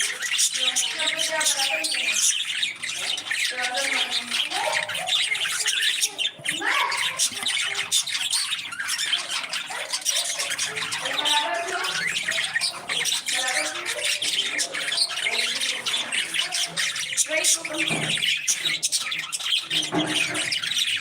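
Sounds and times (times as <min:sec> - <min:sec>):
parrots chattering and squawking: 0:00.0 - 0:21.0.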